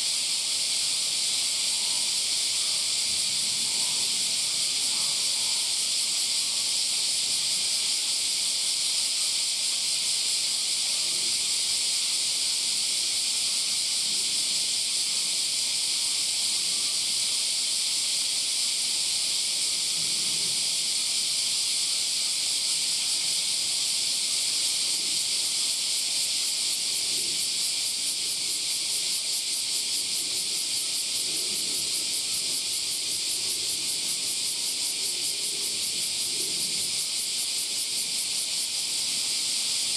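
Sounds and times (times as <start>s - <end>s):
cicada chorus: 0.0s - 39.9s.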